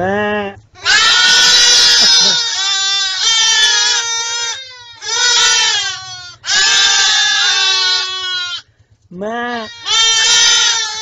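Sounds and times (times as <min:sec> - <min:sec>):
young livestock bleating: 0:00.1 - 0:08.7, 0:09.3 - 0:11.0.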